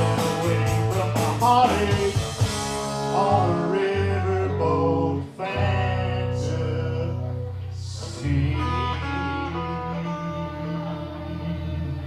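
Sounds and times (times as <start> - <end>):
country-rock band playing: 0.0 - 12.0.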